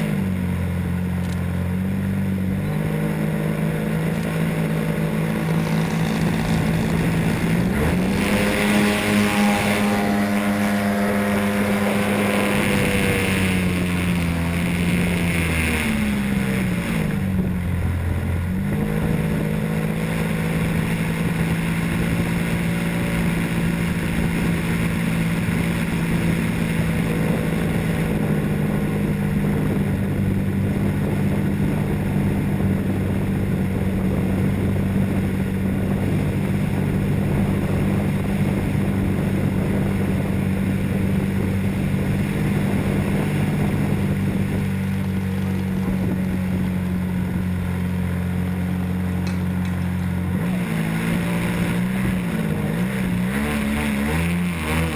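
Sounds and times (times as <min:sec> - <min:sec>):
model airplane motor humming: 0:00.0 - 0:54.9
rush of air: 0:03.9 - 0:52.6.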